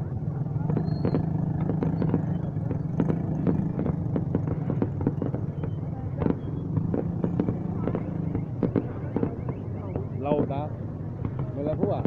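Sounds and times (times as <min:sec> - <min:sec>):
fireworks popping and cracking: 0:00.4 - 0:12.0.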